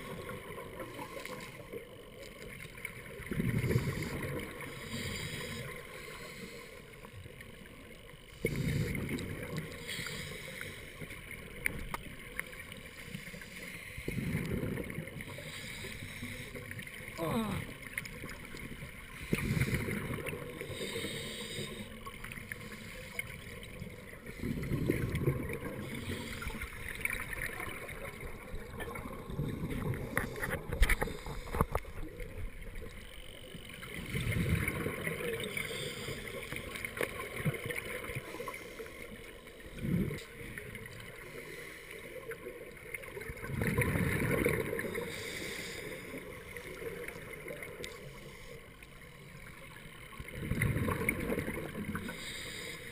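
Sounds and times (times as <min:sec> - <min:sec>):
regulator exhaust bubbles underwater: 0:00.0 - 0:06.2, 0:07.0 - 0:13.3, 0:14.0 - 0:41.5, 0:42.2 - 0:45.3, 0:48.9 - 0:52.9.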